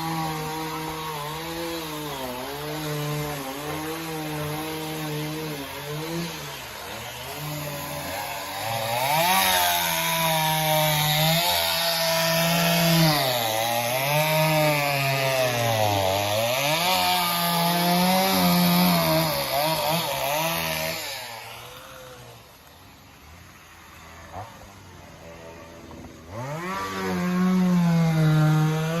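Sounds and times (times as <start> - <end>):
chainsaw running at high revs: 0.0 - 29.0.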